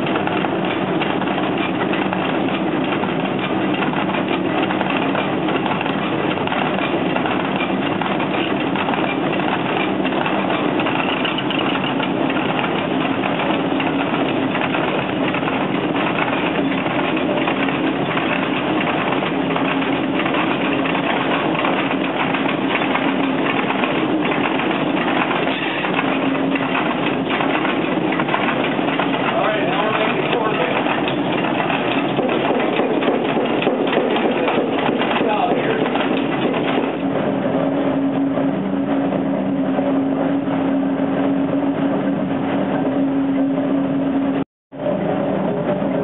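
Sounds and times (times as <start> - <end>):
fast dense rattle: 0.0 - 37.2
millstones grinding rumble: 0.0 - 37.4.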